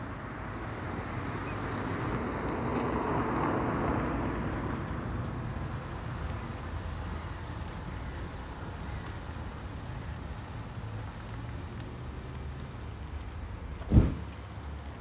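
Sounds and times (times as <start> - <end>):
rain on a car roof: 0.0 - 15.0
passing car tyre hiss: 0.1 - 14.6.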